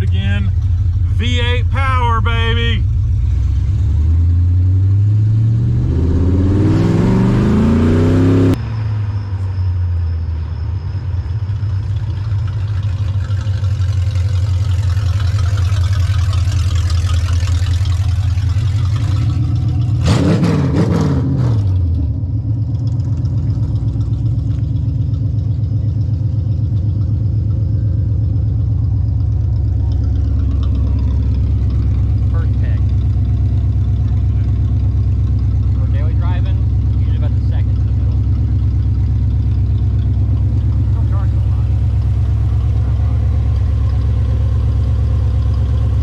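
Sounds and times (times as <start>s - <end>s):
car engine accelerating: 0.0s - 46.0s.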